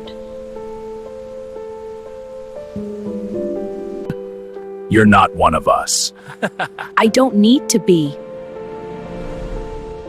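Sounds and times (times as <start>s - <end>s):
soft slow background music: 0.0s - 10.0s.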